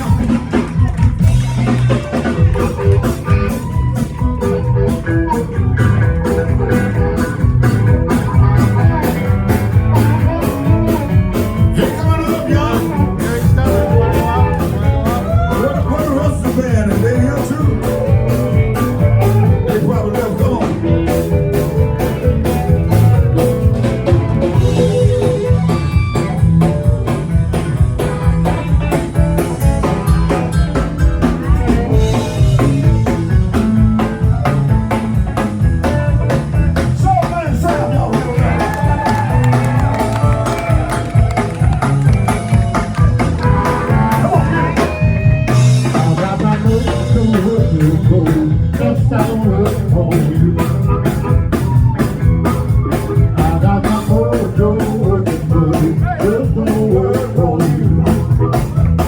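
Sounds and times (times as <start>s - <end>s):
bass: 0.0s - 59.0s
drums steady beat: 0.0s - 59.0s
lead guitar bent sliding notes: 0.0s - 59.0s.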